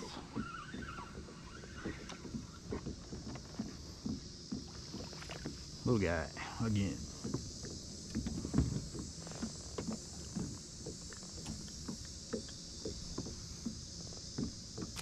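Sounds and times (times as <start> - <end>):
steady hiss: 2.4 - 15.0.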